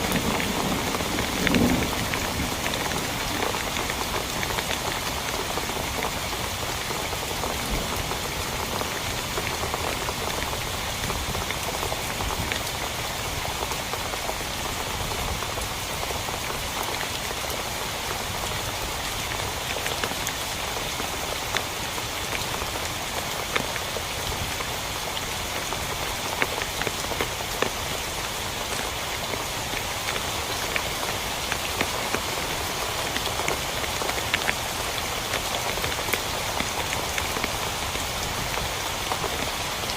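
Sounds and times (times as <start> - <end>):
heavy rain falling: 0.0 - 39.9
raindrops tapping a surface: 0.0 - 39.9.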